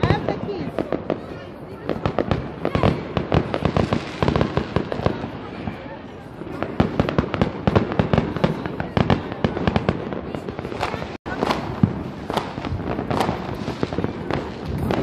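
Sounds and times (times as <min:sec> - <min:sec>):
fireworks and firecrackers banging: 0:00.0 - 0:15.0.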